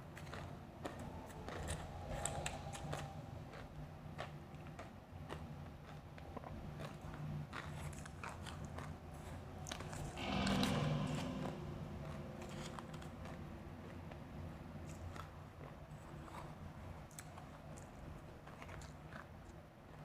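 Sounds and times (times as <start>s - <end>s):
chewing crunchy ice: 0.0s - 10.2s, 12.4s - 20.0s.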